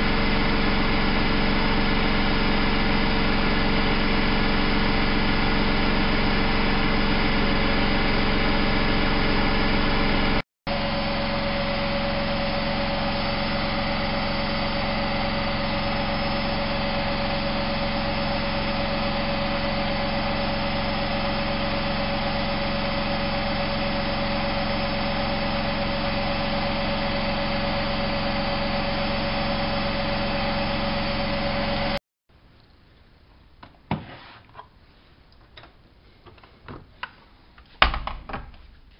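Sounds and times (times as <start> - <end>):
washing machine motor whine: 0.0 - 32.0.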